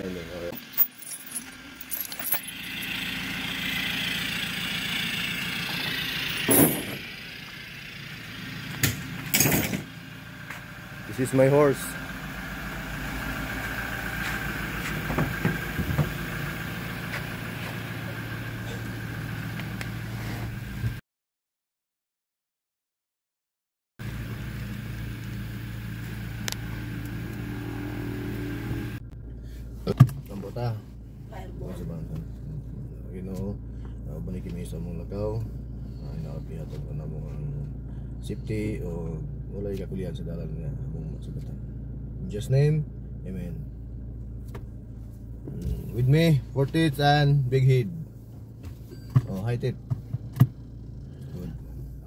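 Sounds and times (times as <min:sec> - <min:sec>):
car cabin running hum: 0:00.0 - 0:21.0, 0:24.0 - 0:52.0
vehicle engine idling: 0:00.0 - 0:21.0, 0:24.0 - 0:52.0.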